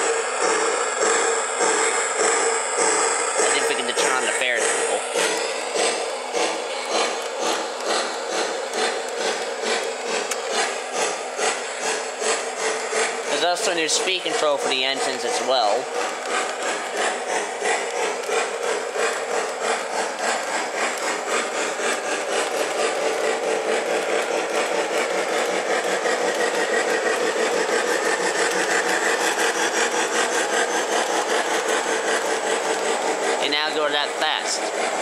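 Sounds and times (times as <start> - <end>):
model trains rumbling on track: 0.0 - 35.0.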